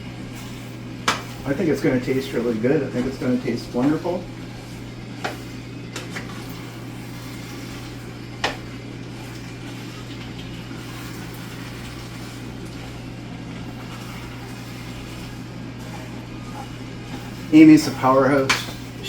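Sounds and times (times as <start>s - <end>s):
kitchen background hiss: 0.0s - 19.0s.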